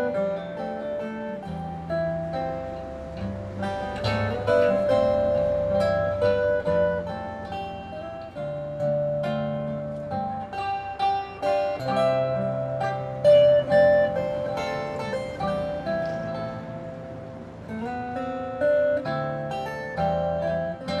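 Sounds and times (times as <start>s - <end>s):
acoustic guitars playing: 0.0s - 21.0s.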